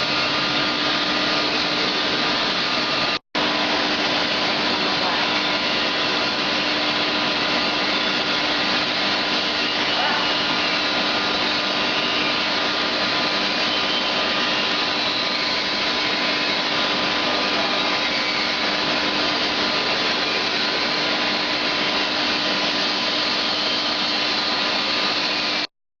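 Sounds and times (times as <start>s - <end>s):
furnace rushing with hum and whine: 0.0s - 25.7s.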